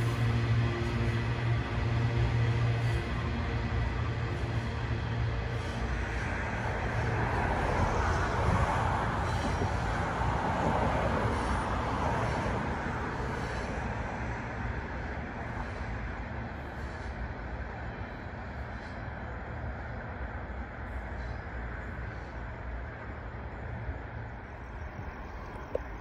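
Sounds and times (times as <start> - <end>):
freight train wagons rumbling: 0.0 - 26.0.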